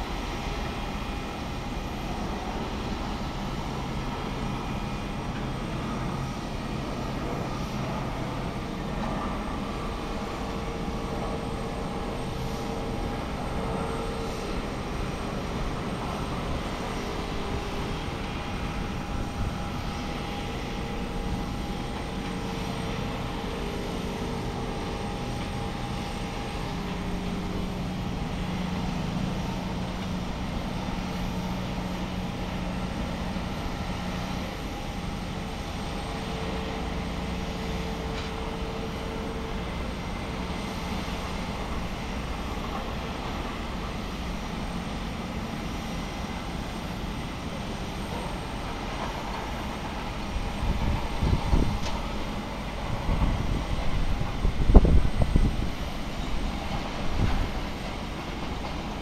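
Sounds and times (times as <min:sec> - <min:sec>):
jet aircraft rumble: 0:00.0 - 0:59.0
steady hum tones: 0:00.0 - 0:59.0.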